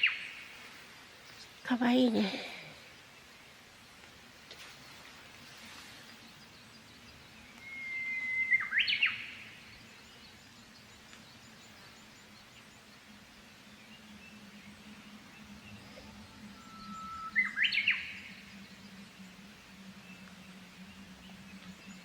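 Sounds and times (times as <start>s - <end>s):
bush warbler singing: 0.0s - 22.0s.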